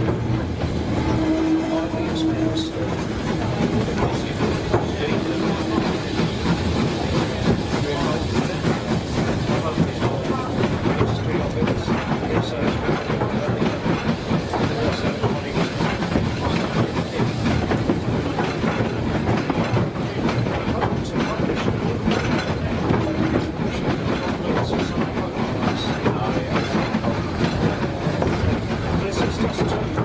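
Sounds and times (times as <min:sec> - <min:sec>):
train wheels clattering over rail joints: 0:00.0 - 0:30.0.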